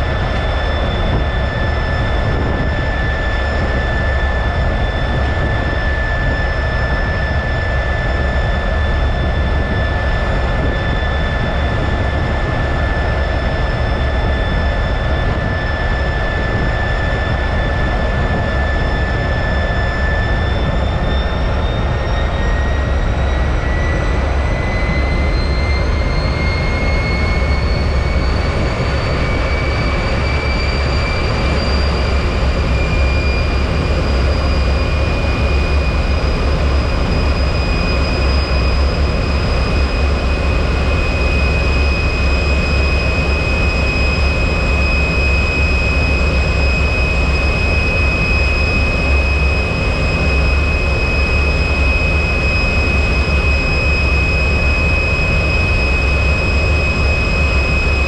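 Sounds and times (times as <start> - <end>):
jet engine rumble and whine: 0.0 - 58.0.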